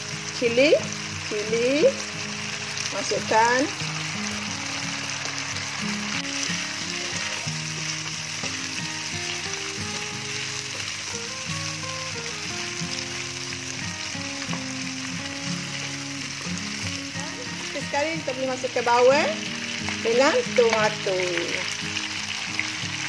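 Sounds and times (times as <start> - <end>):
food sizzling in a wok: 0.0 - 23.0
soft background melody: 0.0 - 23.0.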